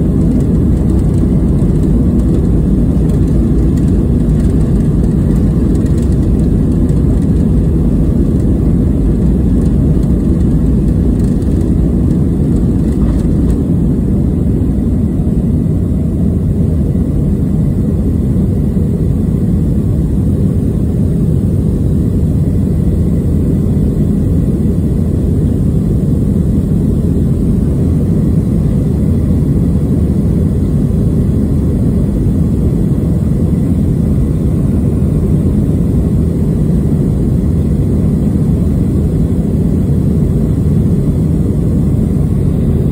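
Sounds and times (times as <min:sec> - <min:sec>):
jet engine roar in cabin: 0:00.0 - 0:42.9.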